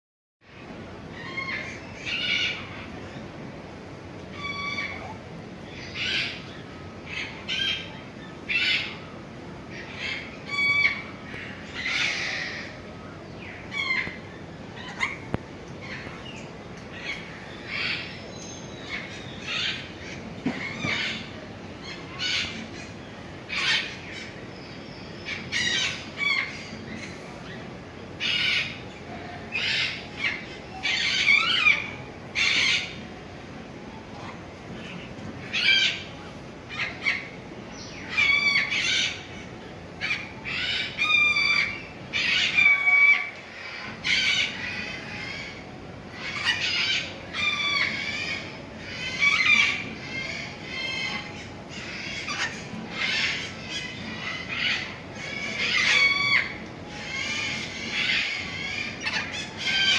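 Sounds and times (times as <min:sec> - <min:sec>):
birds squawking: 0:04.3 - 0:59.9.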